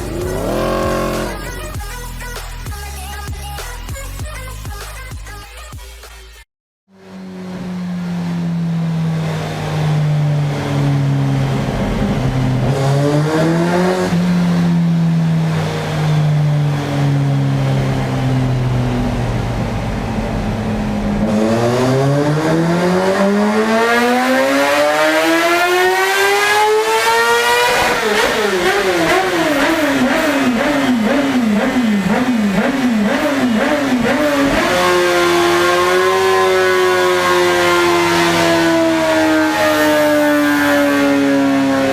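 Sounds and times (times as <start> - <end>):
motorcycle engine revving on dyno: 0.0 - 1.8, 7.0 - 18.8, 19.8 - 41.9.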